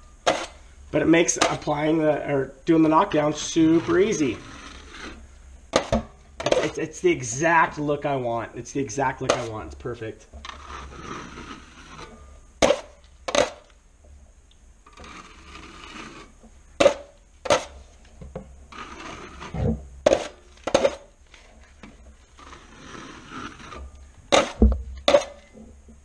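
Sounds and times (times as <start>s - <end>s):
drywall knife scraping compound: 0.2s - 8.0s, 9.2s - 13.7s, 14.9s - 17.9s, 18.7s - 25.6s.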